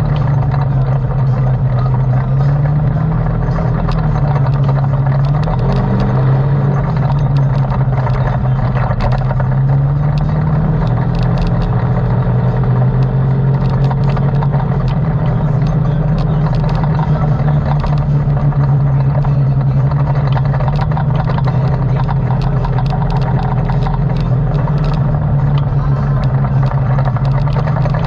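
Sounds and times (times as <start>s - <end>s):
clicks and rattles: 0.0s - 28.0s
engine running: 0.0s - 28.0s.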